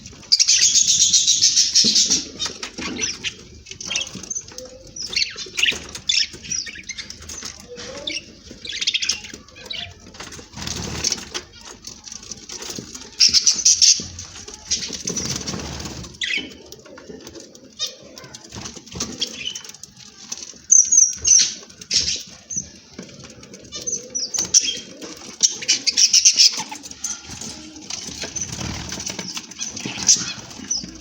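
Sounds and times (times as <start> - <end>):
birds fluttering wings: 0.0 - 31.0.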